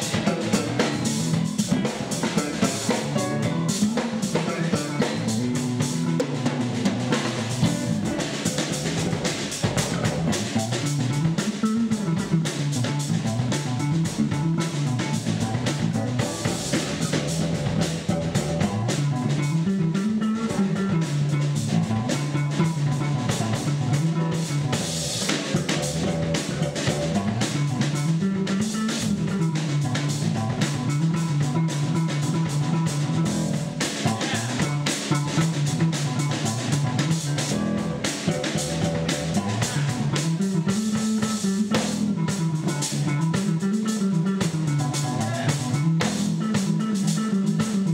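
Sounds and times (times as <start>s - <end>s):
drum kit: 0.0s - 47.9s
electric bass line: 0.0s - 47.9s.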